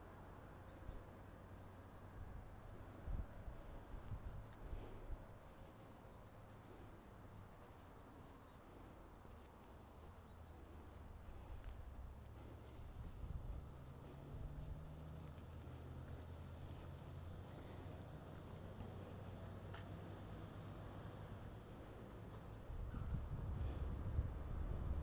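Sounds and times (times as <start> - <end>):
steady low rumble: 0.2 - 25.0.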